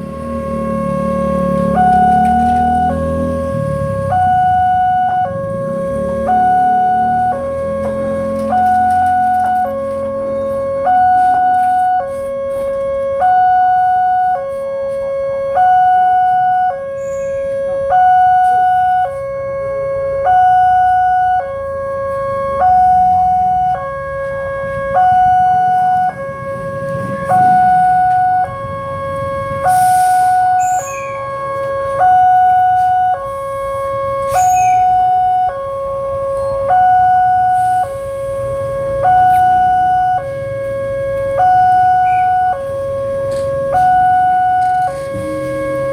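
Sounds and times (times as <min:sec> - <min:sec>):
road traffic rumble: 0:00.0 - 0:45.9
two-tone level crossing alarm: 0:00.0 - 0:45.9.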